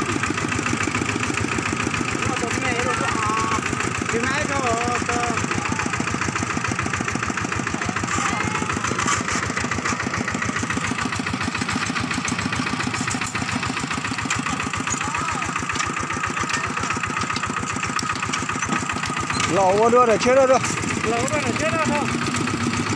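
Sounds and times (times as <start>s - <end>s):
diesel engine chugging: 0.0s - 22.9s.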